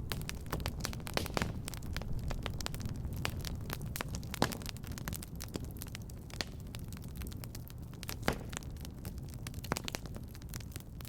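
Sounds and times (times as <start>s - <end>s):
low rumble of flames: 0.0s - 11.0s
wood fire crackling: 0.0s - 11.0s.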